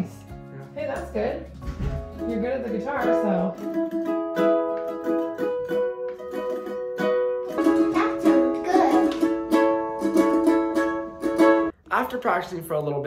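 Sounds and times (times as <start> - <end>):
ukulele strumming chords: 0.0 - 11.8.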